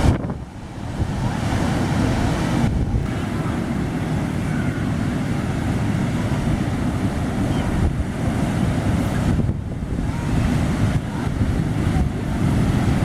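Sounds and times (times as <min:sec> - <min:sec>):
large waves rushing: 0:00.0 - 0:13.0
wind buffeting microphone: 0:00.0 - 0:13.0.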